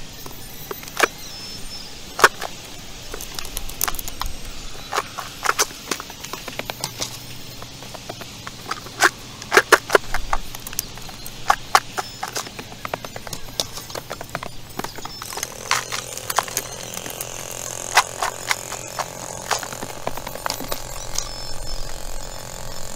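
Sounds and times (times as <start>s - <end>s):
boots on stones: 0.0s - 22.9s
steady high whir: 0.0s - 22.9s
digging tool striking stony ground: 0.2s - 1.2s, 2.1s - 22.9s.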